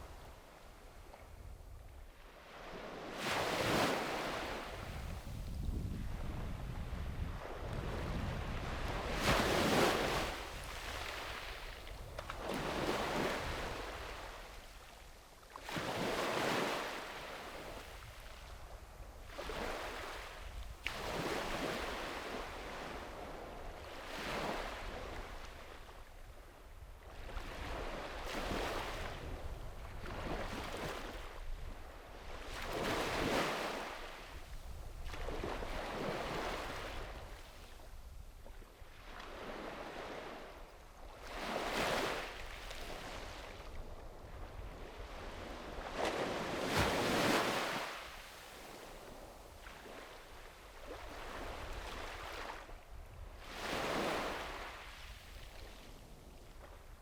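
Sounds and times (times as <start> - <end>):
waves breaking on beach: 2.2 - 5.8, 6.4 - 14.8, 15.6 - 18.6, 19.2 - 26.0, 27.1 - 38.0, 38.7 - 57.0.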